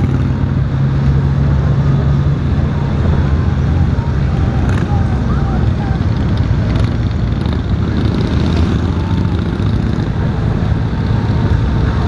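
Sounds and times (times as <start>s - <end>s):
motorcycle engine rumble: 0.0s - 12.0s
road and wind rush: 0.0s - 12.0s.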